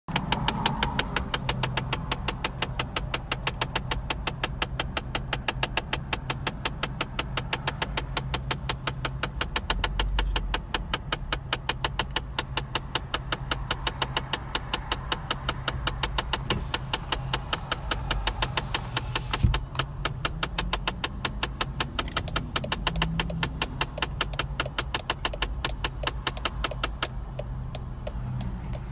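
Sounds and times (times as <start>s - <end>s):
fast clicking in steering column: 0.1s - 28.9s.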